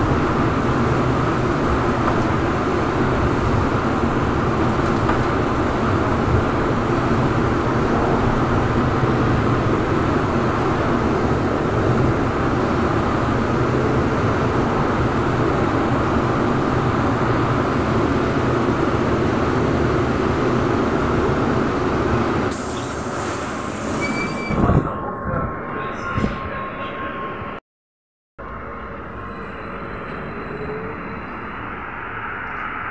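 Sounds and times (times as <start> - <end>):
trolleybus rumble and rattle: 0.0 - 27.5.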